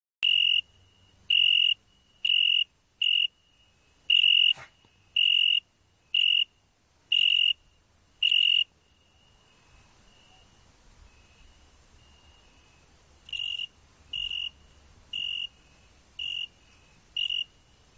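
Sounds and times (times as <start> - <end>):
cricket chirping: 0.2 - 17.9.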